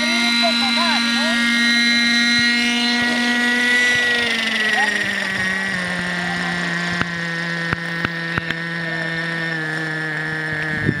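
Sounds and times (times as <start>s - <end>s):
model helicopter rotor whine: 0.0s - 11.0s.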